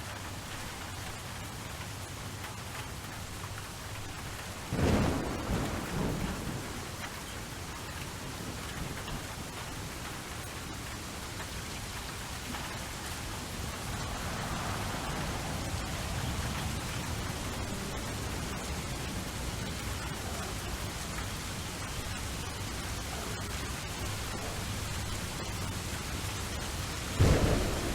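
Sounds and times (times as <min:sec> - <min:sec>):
rain hissing: 0:00.0 - 0:27.9
distant thunder rumbling: 0:04.2 - 0:10.8, 0:11.8 - 0:27.9.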